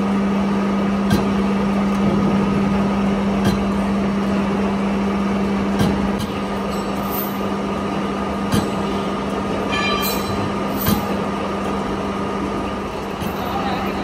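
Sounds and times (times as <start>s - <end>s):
lathe machine hum and rumble: 0.0s - 14.0s.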